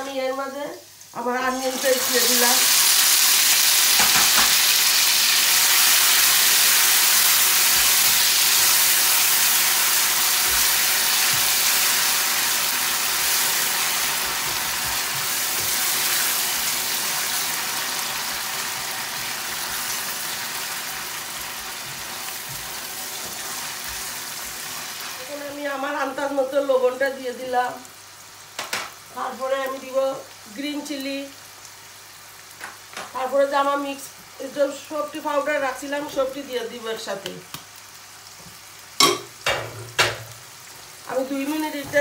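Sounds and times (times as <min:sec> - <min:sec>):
onion sizzling in oil: 0:00.0 - 0:42.0.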